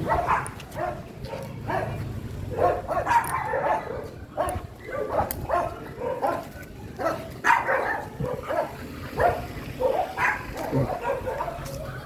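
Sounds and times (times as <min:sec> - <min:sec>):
dog barking: 0:00.0 - 0:11.9.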